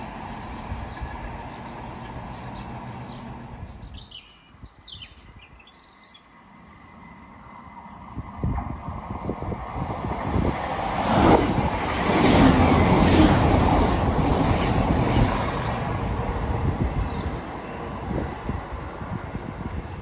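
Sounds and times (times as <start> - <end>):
train passing: 0.0 - 4.2, 5.9 - 20.0.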